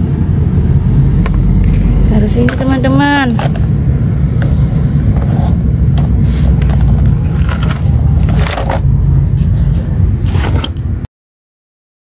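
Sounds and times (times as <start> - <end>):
low rumbling noise: 0.0 - 11.1.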